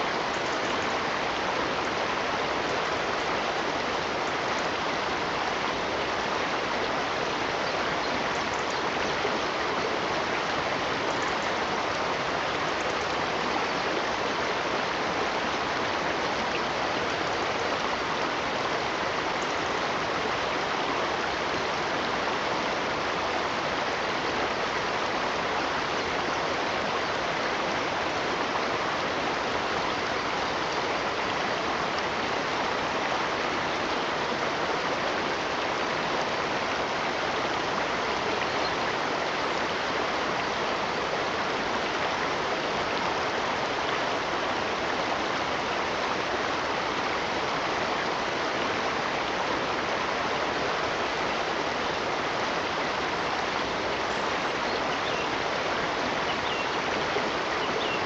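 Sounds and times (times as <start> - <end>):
flowing stream water: 0.0 - 58.0.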